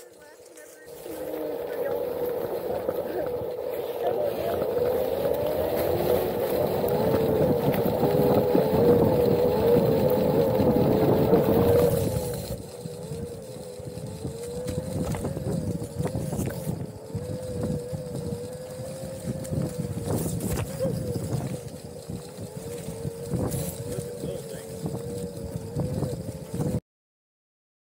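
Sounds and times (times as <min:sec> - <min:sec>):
electric motor whining: 0:00.0 - 0:26.8
rough rolling noise: 0:00.0 - 0:26.8.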